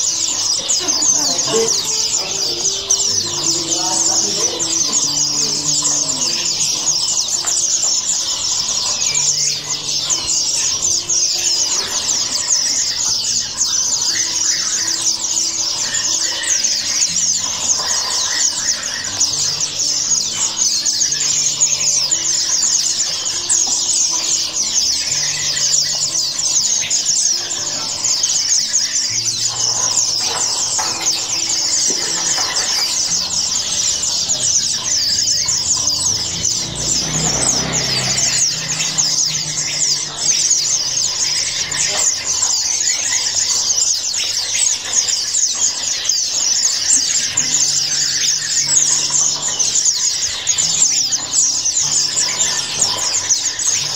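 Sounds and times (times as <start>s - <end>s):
caged birds chirping: 0.0s - 53.9s.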